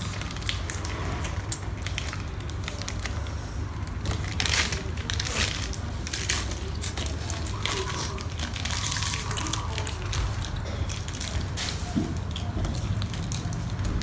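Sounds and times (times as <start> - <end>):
people chewing and crunching: 0.0 - 14.0.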